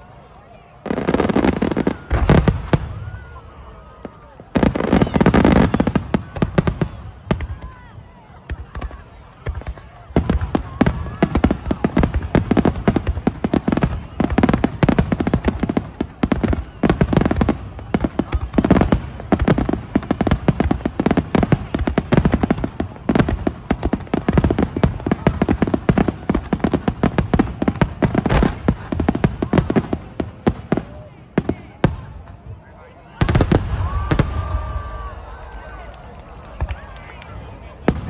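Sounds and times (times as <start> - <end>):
fireworks bursting: 0.8 - 7.8, 8.4 - 32.4, 33.2 - 38.0.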